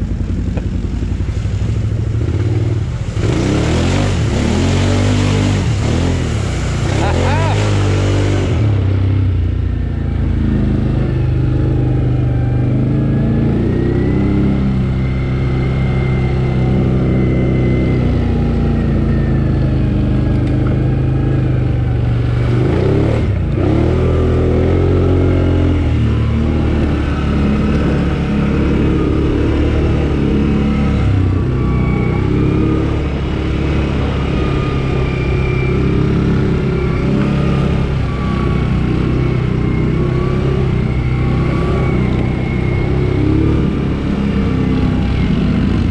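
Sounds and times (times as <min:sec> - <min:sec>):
quad bike engine revving: 0:00.0 - 0:45.9.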